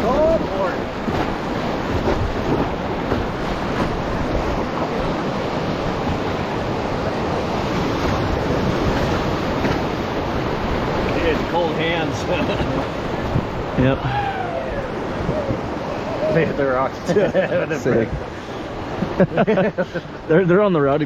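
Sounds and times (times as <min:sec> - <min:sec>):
wind buffeting microphone: 0:00.0 - 0:16.9
whitewater rapids rushing: 0:00.0 - 0:21.0.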